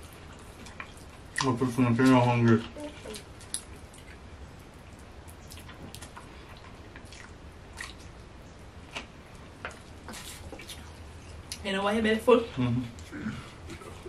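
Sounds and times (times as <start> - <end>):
people chewing food: 0.0 - 11.6, 12.5 - 14.0
steady low hum: 0.0 - 14.0.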